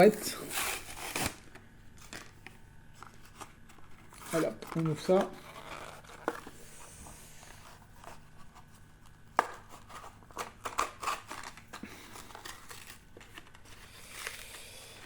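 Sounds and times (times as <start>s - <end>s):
plastic packaging crinkling: 0.0s - 6.7s, 7.5s - 15.0s.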